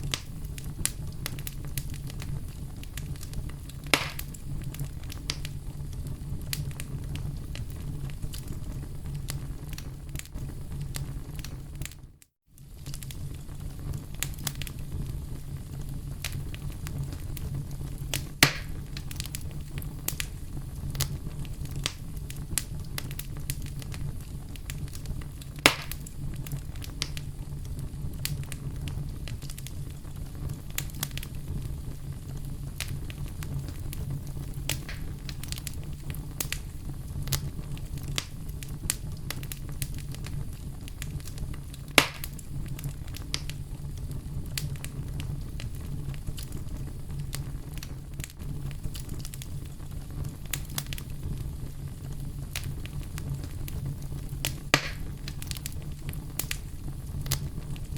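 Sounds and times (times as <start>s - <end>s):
campfire crackling: 0.0s - 57.9s
fire pops: 0.0s - 57.9s.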